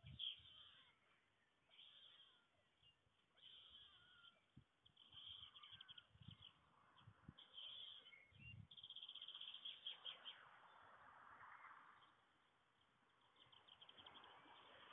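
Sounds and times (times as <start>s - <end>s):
faint bird chirps: 0.0s - 14.9s.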